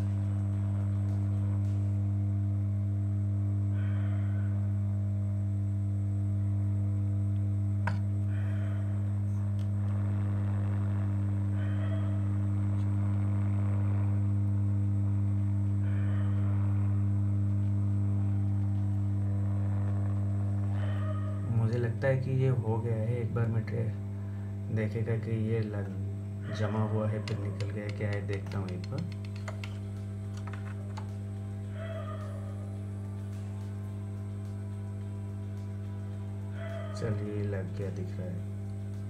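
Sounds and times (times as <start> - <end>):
hot air station humming drone: 0.0 - 39.0.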